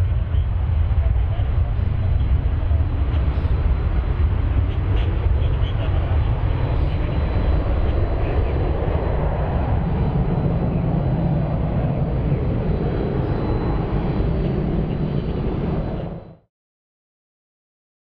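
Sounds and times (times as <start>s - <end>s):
faint high jet whine: 0.0s - 16.4s
jet engines deep rumble: 0.0s - 16.5s.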